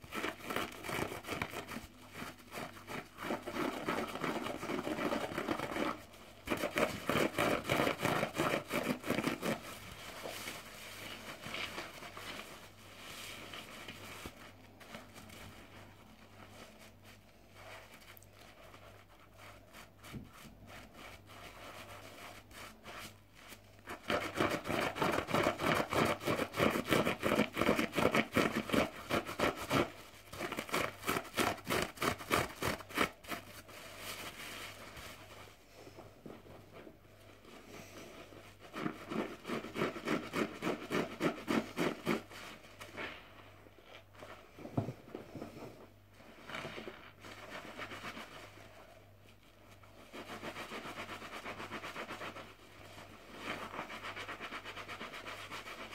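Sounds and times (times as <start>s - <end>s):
wet sponge rubbing on microphone: 0.0s - 55.9s.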